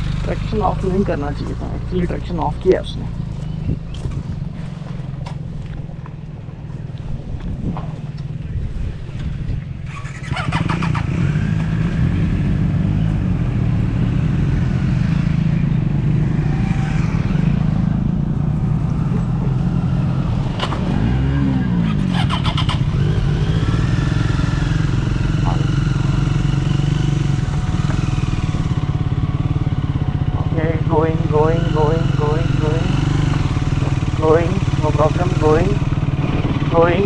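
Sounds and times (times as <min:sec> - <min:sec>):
motorcycle engine under load: 0:00.0 - 0:37.0.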